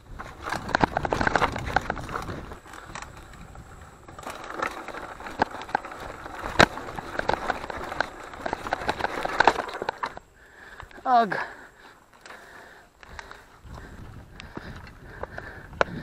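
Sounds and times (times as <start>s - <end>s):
bike rattles and clicks: 0.0s - 16.0s.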